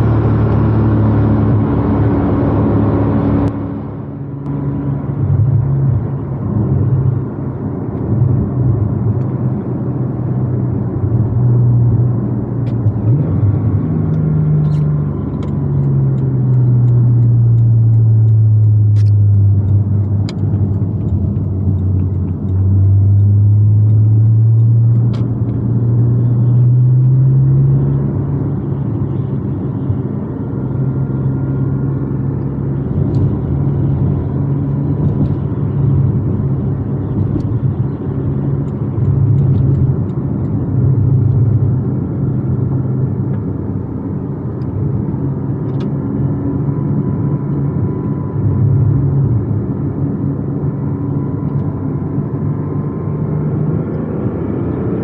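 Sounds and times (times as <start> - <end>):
car engine from inside cabin: 0.0 - 55.0.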